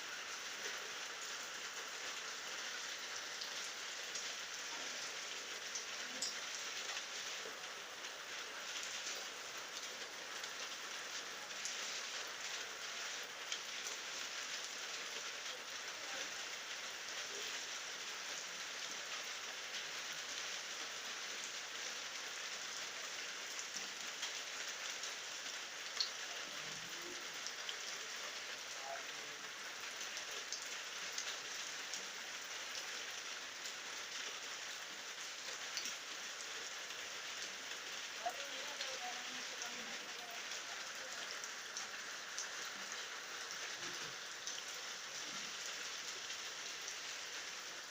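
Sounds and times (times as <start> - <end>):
steady rain falling: 0.0 - 47.9
individual raindrops ticking: 0.6 - 19.5, 22.9 - 47.9.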